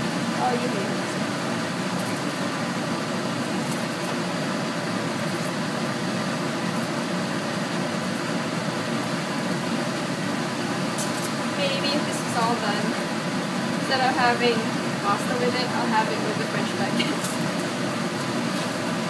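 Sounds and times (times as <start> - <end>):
fan whirring: 0.0 - 19.0.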